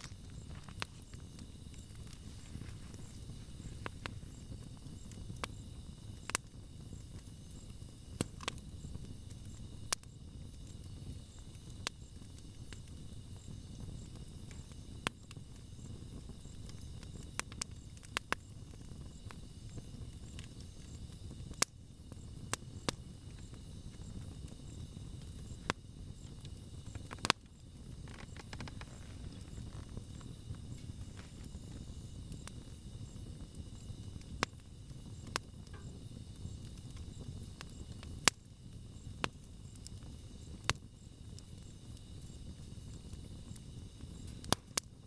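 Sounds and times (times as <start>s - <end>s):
campfire rumbling: 0.0s - 45.0s
fire crackling and popping: 0.0s - 45.0s.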